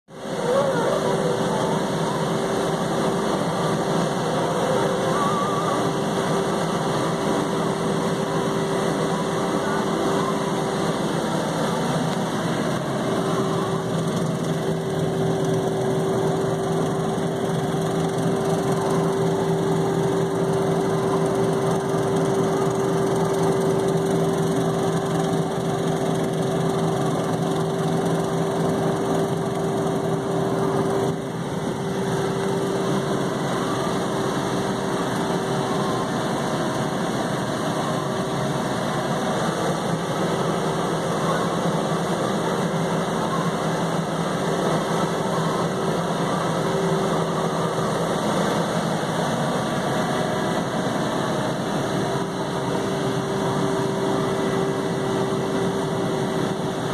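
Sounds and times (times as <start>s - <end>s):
steady whine: 0.1s - 56.9s
tractor diesel engine under load: 0.2s - 56.9s.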